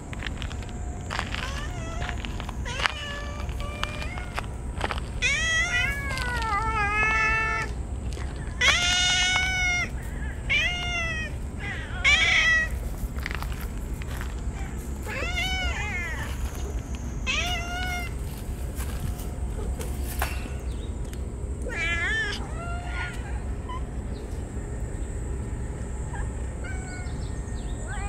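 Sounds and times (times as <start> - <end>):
cats meowing: 1.1 - 13.6, 14.5 - 20.7, 21.6 - 23.9, 26.1 - 28.0.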